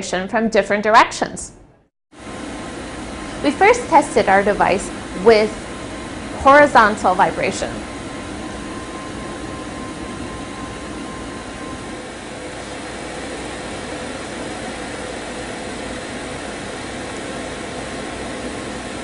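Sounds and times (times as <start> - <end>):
vibration table mechanical noise: 2.2 - 19.0.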